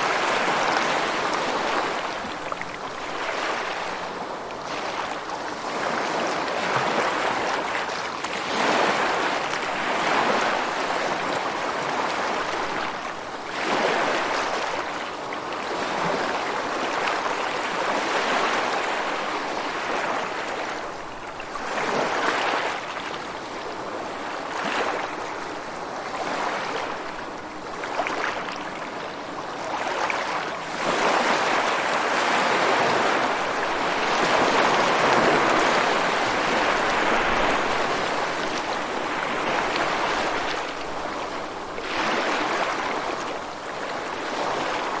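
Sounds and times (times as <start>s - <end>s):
ocean waves breaking on shore: 0.0s - 45.0s.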